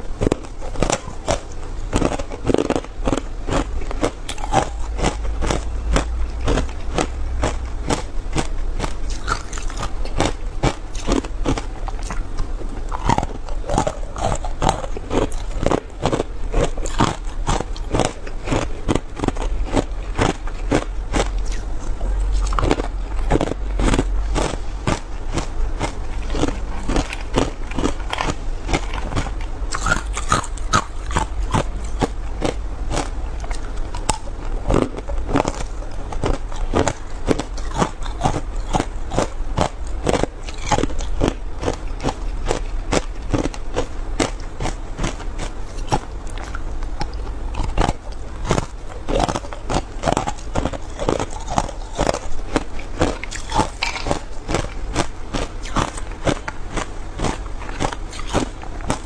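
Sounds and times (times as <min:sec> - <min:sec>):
ice cubes crunching in mouth: 0:00.2 - 0:12.2, 0:12.8 - 0:21.7, 0:22.3 - 0:59.0.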